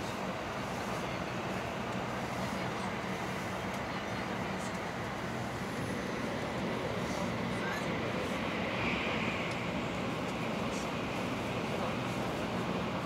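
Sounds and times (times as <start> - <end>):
train cabin rumble and hiss: 0.0 - 13.0.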